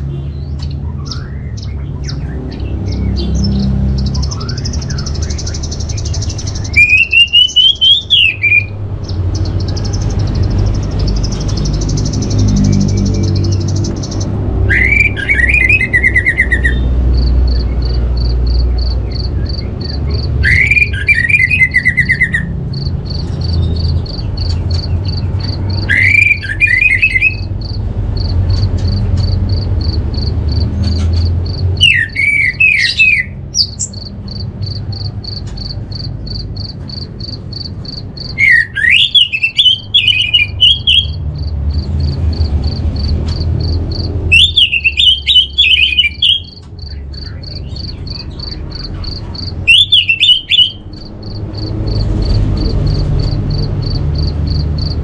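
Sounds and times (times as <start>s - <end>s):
insect chirping: 2.6s - 32.7s, 33.6s - 55.0s.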